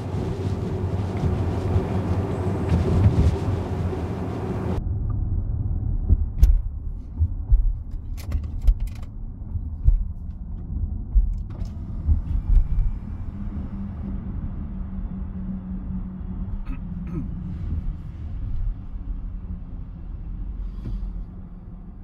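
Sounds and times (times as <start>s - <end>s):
tyre and road rumble in car: 0.0s - 22.0s.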